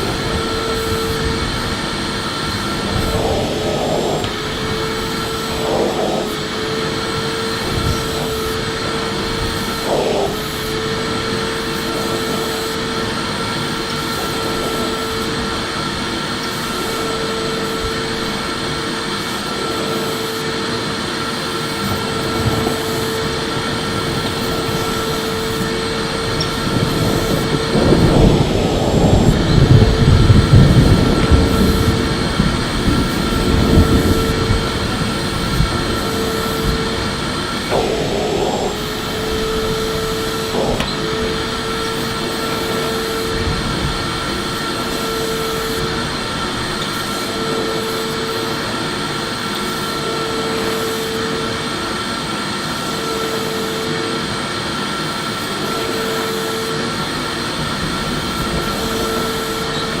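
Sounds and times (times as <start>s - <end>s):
vacuum cleaner running: 0.0s - 60.0s.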